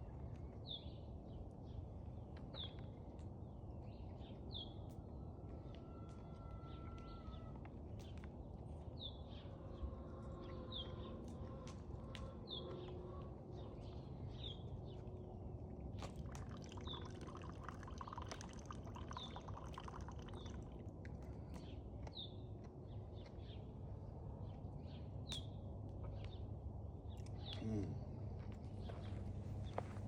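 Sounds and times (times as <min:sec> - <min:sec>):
low background rumble: 0:00.0 - 0:30.0.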